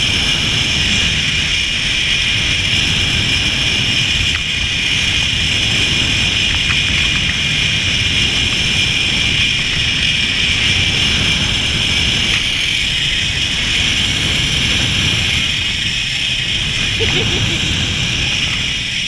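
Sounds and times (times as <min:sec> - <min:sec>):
wind over microphone: 0:00.0 - 0:19.0
zip-line pulleys whining: 0:00.0 - 0:19.0.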